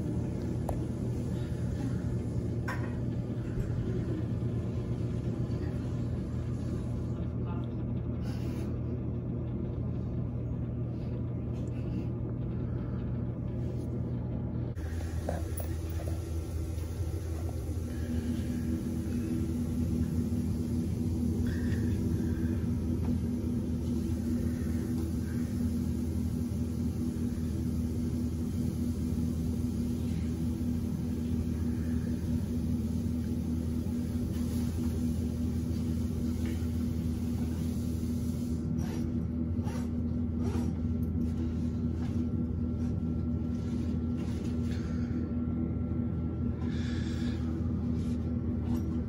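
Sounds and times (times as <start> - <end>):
low machine hum and rumble: 0.0 - 49.0.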